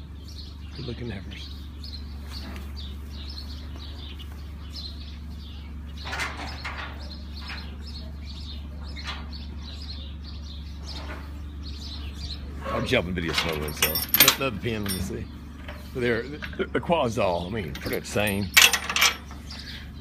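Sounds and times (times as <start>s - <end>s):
small birds chirping: 0.0s - 20.0s
steady low hum: 0.0s - 20.0s.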